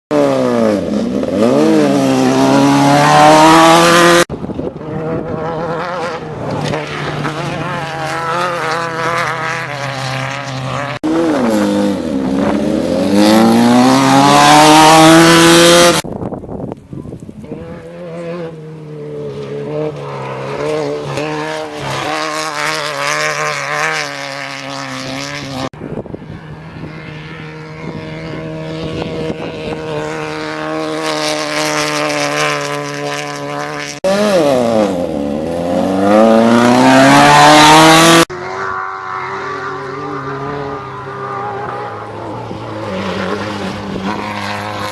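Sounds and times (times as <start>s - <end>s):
race buggy engines revving: 0.1s - 16.1s, 17.1s - 44.9s.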